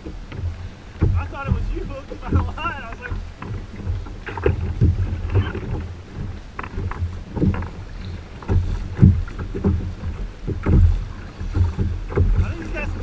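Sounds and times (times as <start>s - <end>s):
waves slapping kayak hull: 0.0s - 13.0s
wind buffeting microphone: 0.0s - 13.0s.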